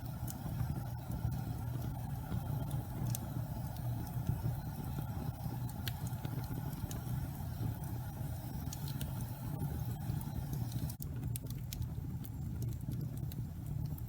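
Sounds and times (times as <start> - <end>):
fire crackles: 0.0 - 14.0
wood fire roaring: 0.0 - 14.0.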